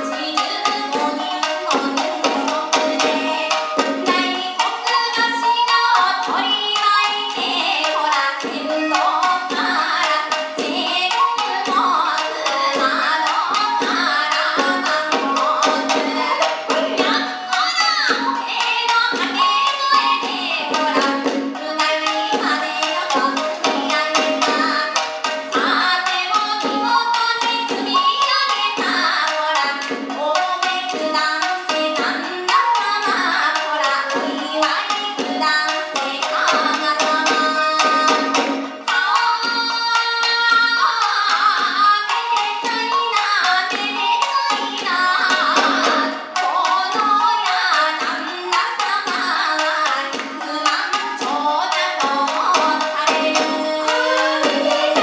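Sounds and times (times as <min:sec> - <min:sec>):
bamboo flute: 0:00.0 - 0:55.0
drum: 0:00.0 - 0:55.0
shamisen plucking: 0:00.0 - 0:55.0
woman singing: 0:00.0 - 0:55.0.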